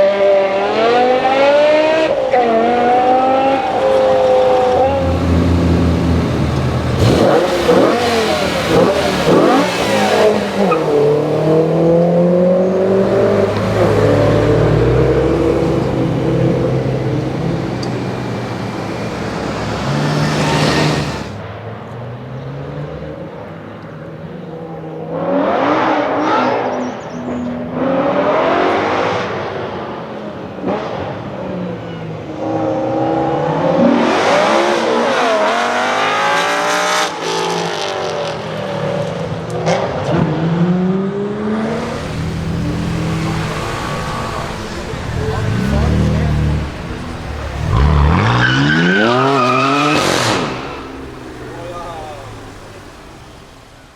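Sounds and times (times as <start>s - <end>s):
car engines revving and accelerating: 0.0s - 53.9s.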